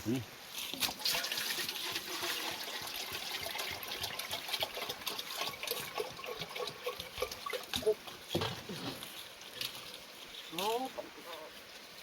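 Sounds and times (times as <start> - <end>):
water trickling and splashing: 0.5 - 12.0.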